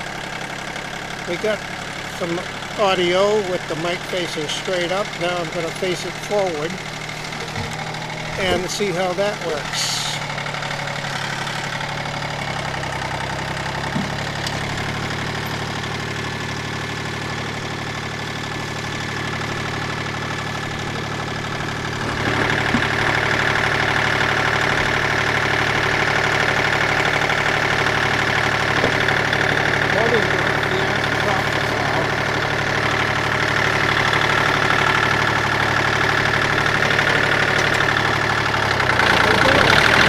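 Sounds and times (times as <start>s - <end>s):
diesel tractor engine running: 0.0s - 40.0s.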